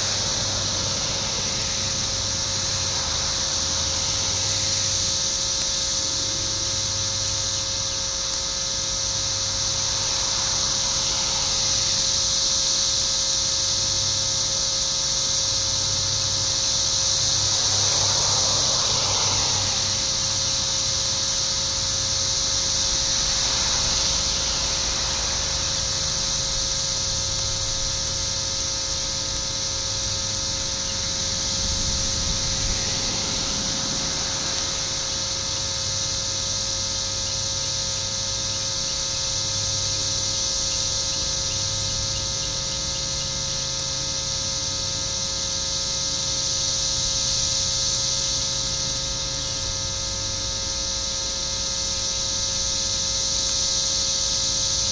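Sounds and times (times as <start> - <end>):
cicadas buzzing: 0.0 - 54.9
electrical hum: 0.0 - 54.9.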